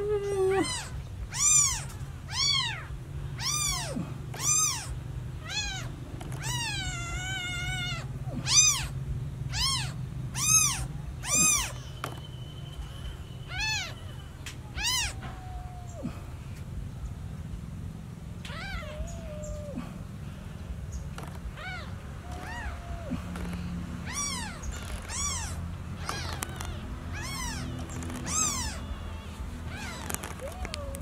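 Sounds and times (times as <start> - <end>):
kittens meowing: 0.0 - 12.2, 12.9 - 16.4, 18.4 - 20.1, 21.2 - 31.0.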